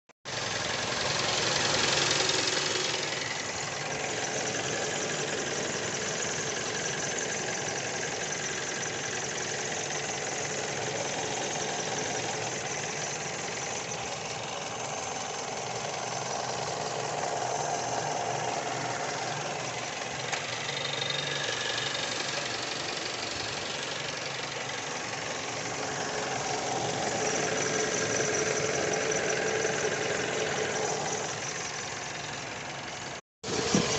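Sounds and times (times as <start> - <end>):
car engine running: 0.3 - 33.9.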